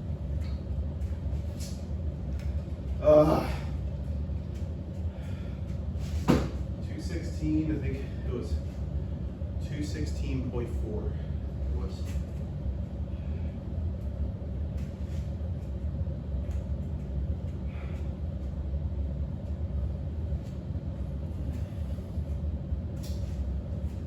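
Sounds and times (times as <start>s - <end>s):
low rumble with hum: 0.0s - 24.0s.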